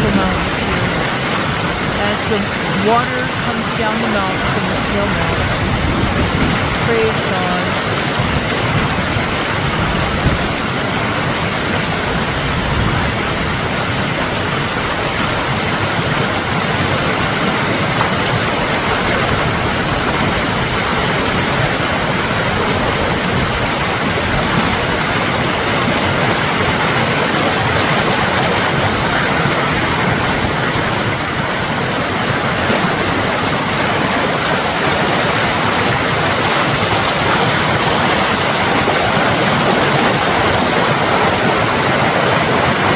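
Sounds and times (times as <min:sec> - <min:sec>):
creek rapids rushing: 0:00.0 - 0:42.9.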